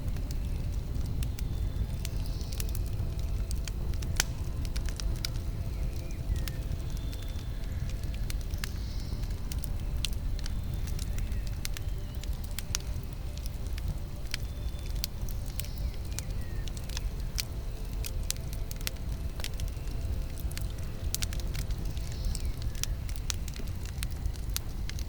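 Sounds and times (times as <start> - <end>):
campfire flames rumbling: 0.0 - 25.0
fire crackling and popping: 0.0 - 25.0.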